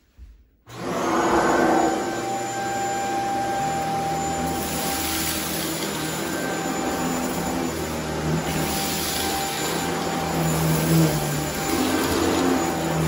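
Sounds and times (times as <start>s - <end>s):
stick vacuum running on a rug: 0.7s - 13.0s.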